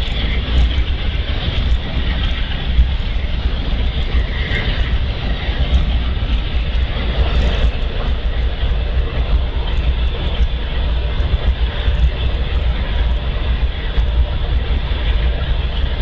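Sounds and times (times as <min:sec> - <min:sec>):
train cars rumbling on rails: 0:00.0 - 0:16.0.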